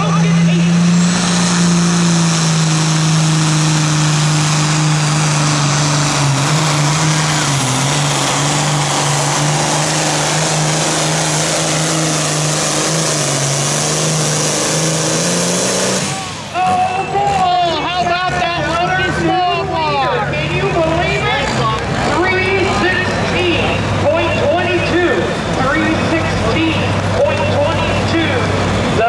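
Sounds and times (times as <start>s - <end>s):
diesel engine at high revs: 0.0s - 29.0s.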